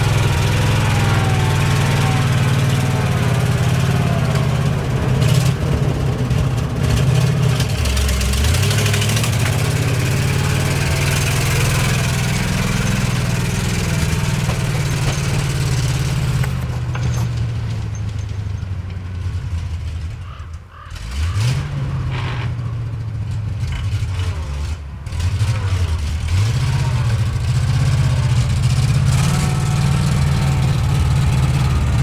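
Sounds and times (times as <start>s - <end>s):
road noise: 0.0s - 32.0s
truck engine running: 0.0s - 32.0s.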